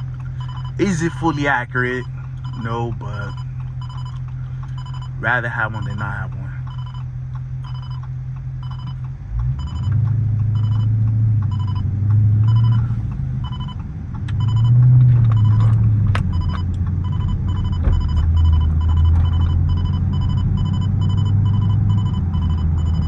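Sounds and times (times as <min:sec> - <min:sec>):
car engine droning: 0:00.0 - 0:23.0
electronic beeps: 0:00.4 - 0:08.0, 0:08.6 - 0:09.0, 0:10.6 - 0:10.9, 0:11.5 - 0:13.8, 0:14.4 - 0:23.0.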